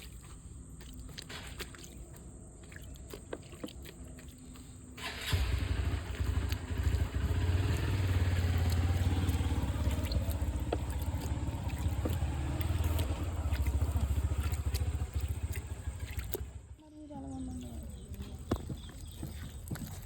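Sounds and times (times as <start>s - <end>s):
engine running with low pulsing: 0.0s - 20.0s.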